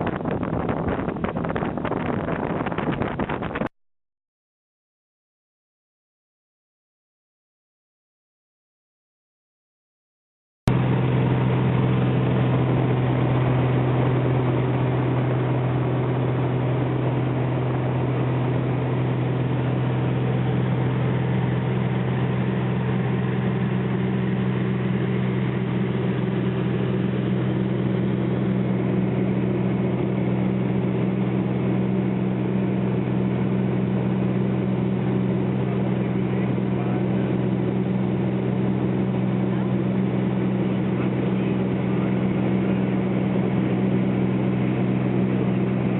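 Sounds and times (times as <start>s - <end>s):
engine droning steadily: 0.0s - 3.7s, 10.7s - 45.9s.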